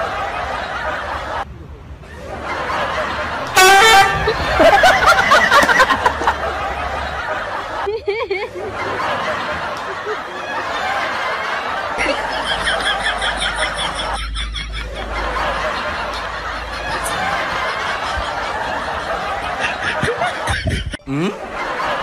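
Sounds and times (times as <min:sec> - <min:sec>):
people laughing: 0:00.0 - 0:22.0.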